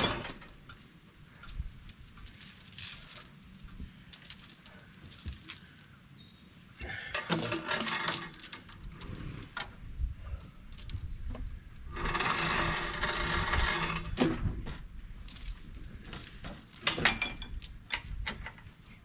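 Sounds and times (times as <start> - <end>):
heavy chain clinking and rattling: 0.0 - 9.6, 10.4 - 18.6.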